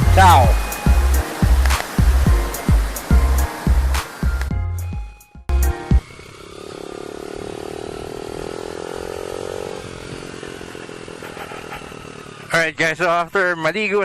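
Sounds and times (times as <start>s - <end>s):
motorcycle engine running: 0.0s - 4.5s, 5.5s - 13.3s.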